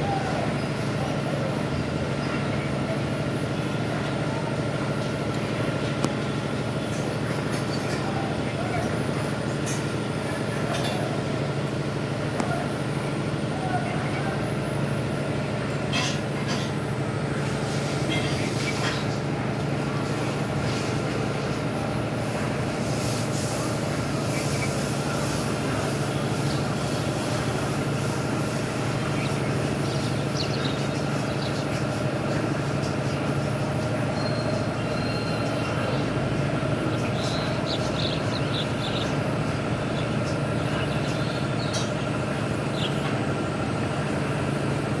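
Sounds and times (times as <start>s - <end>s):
vehicle running rumble: 0.0s - 45.0s.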